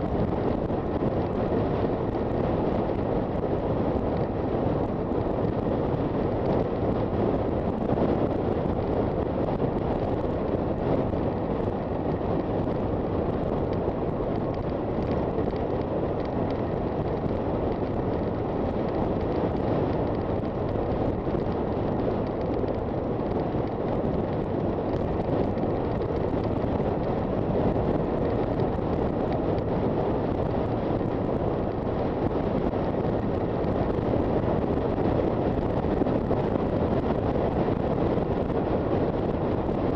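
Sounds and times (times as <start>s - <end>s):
road noise: 0.0s - 39.9s
wind rush on microphone: 0.0s - 39.9s.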